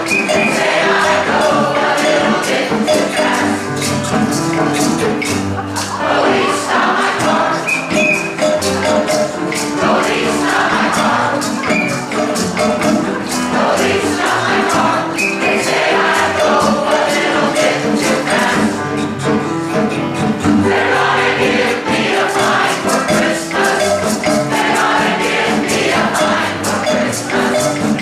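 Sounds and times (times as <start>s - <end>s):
group singing with backing music: 0.0s - 28.0s
steady percussion beat: 0.0s - 28.0s.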